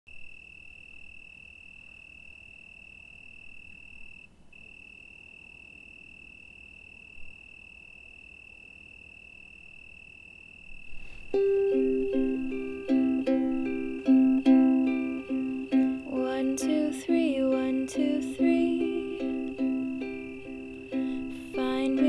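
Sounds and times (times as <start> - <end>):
cricket trilling: 0.1 - 22.0
faint low background noise: 0.1 - 22.0.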